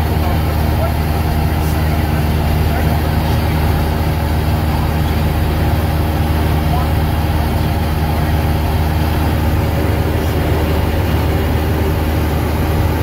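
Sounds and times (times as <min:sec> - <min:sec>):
airplane engine and propeller droning: 0:00.0 - 0:13.0.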